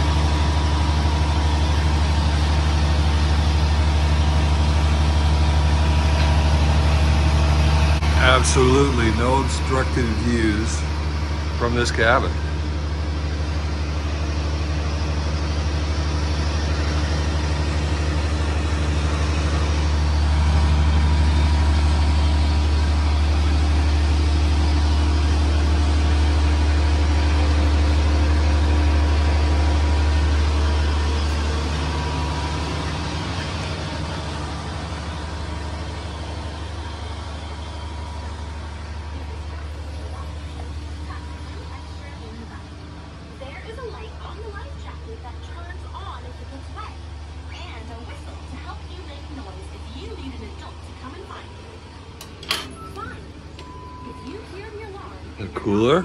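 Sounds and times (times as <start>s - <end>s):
low rumble with faint hum: 0.0s - 56.0s.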